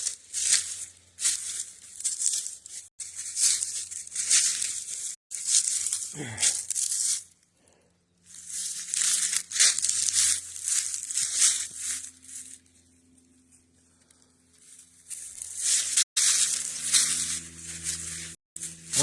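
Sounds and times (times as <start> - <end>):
footsteps crunching dry leaves: 0.0 - 7.4, 8.2 - 13.2, 14.0 - 19.0.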